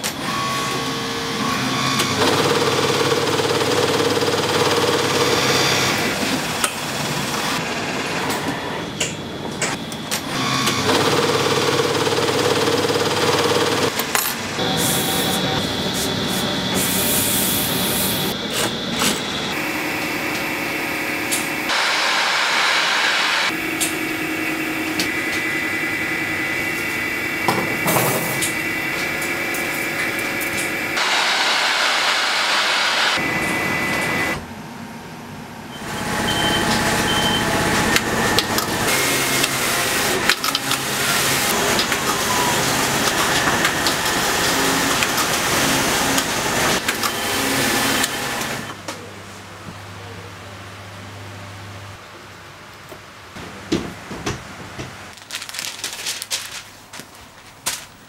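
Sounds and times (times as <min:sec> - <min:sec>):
knitting machines humming: 0:00.0 - 0:48.8.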